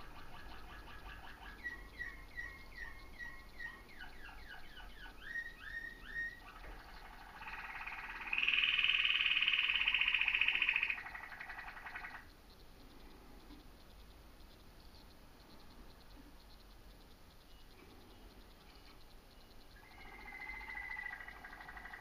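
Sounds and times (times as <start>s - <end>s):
bird rapid trill: 0.0s - 13.6s, 16.9s - 22.0s
bird chirps: 0.0s - 22.0s.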